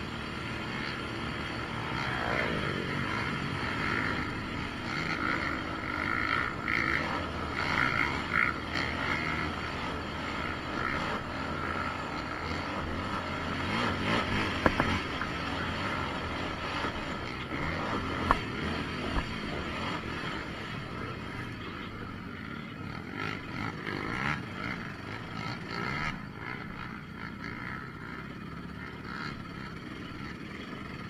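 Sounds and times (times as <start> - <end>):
quad engine running: 0.0 - 31.0.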